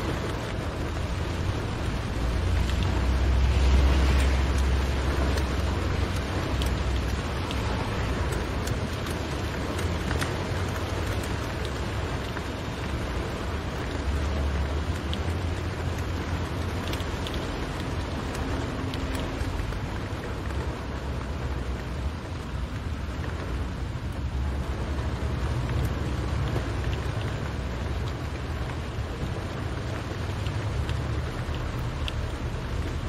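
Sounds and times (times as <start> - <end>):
car rumbling on road: 0.0 - 33.0
rain on car roof: 0.0 - 33.0.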